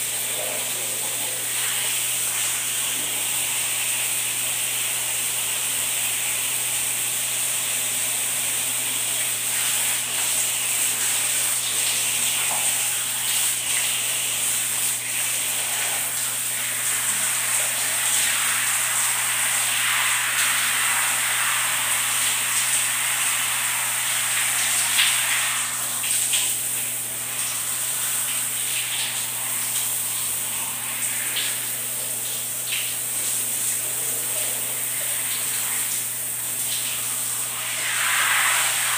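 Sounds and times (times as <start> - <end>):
shower spraying water: 0.0 - 38.9.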